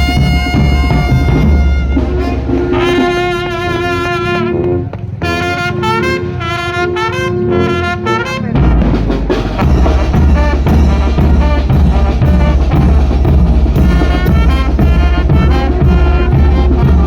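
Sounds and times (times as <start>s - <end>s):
brass band playing: 0.0s - 17.0s
horns with vibrato: 0.0s - 17.0s
tuba and bass drum beats: 0.0s - 17.0s.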